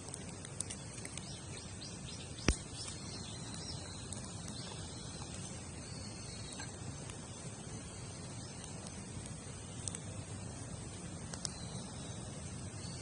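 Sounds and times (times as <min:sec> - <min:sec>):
fire popping: 0:00.0 - 0:12.8
campfire crackling: 0:00.0 - 0:13.0
high chirps of birds or insects: 0:00.0 - 0:13.0.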